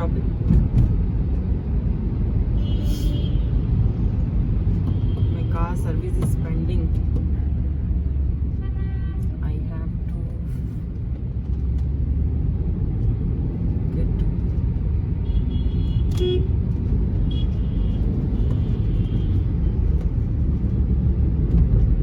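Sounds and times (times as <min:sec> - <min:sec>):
car engine rumble and road noise: 0:00.0 - 0:22.0.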